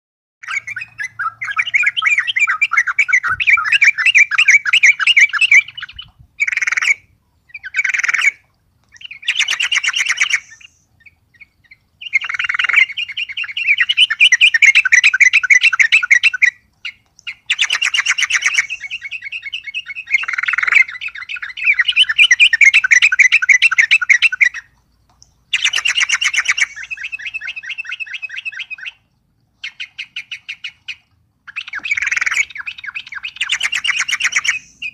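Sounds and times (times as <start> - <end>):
bird singing bubbly chattering notes: 0.4 - 34.9.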